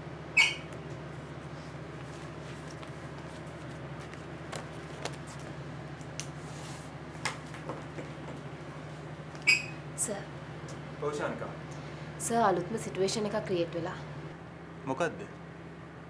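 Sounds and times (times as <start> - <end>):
low hum of room tone: 0.0 - 16.0.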